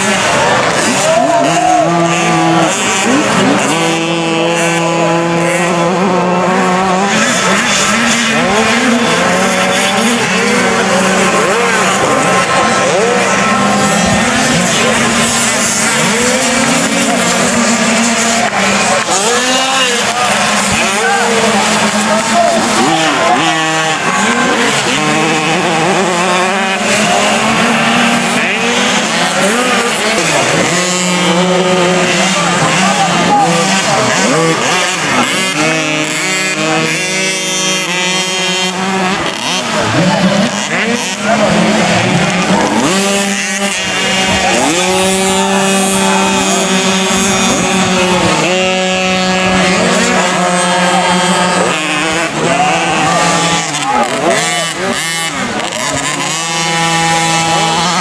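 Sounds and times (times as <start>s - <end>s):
motocross bikes racing: 0.0s - 58.0s.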